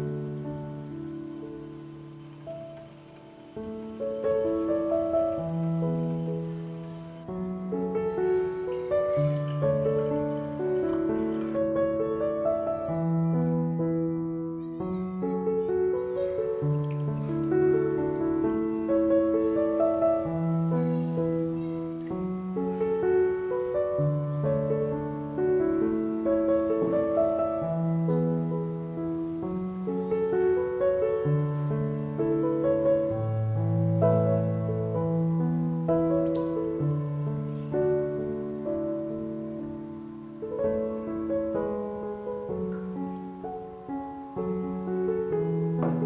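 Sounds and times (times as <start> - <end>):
soft piano music: 0.0 - 46.0.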